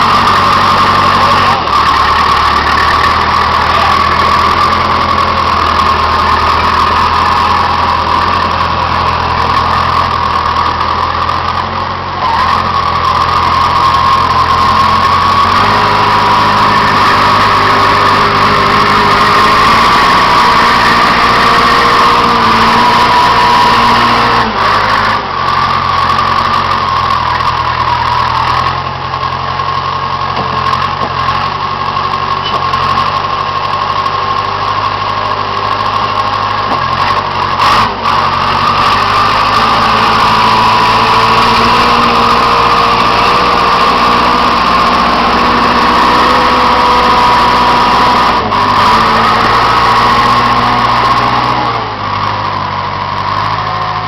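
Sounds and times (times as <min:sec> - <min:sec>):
bulldozer engine running: 0:00.0 - 0:54.0
high whine: 0:00.0 - 0:54.0.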